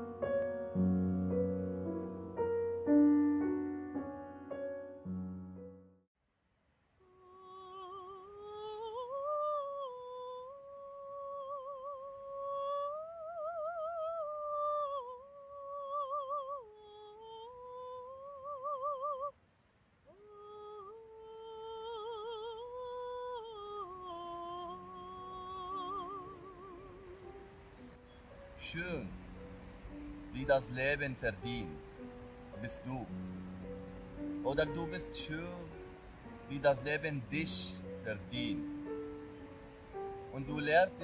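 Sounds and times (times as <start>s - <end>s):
woman singing wordless melody: 7.0s - 41.0s.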